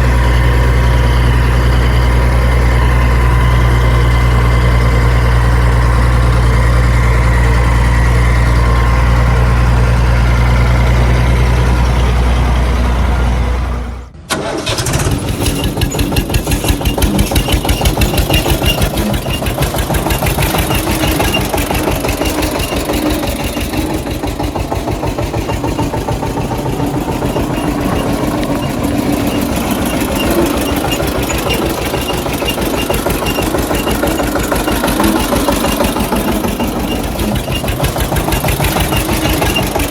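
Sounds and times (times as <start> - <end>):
engine chugging: 0.0 - 39.9
heavy engine droning: 0.0 - 39.9.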